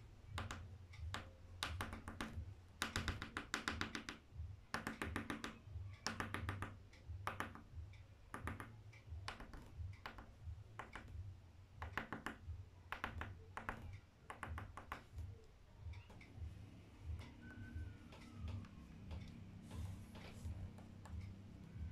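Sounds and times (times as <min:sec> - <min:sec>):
drawing stick tapping paper: 0:00.3 - 0:07.7, 0:08.3 - 0:11.2, 0:11.8 - 0:15.3, 0:17.2 - 0:21.9.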